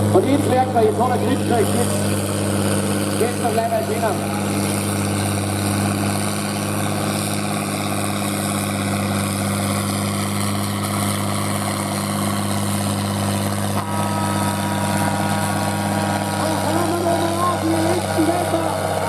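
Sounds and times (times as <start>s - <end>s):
high whine: 0.0s - 19.0s
tractor engine droning: 0.0s - 19.0s.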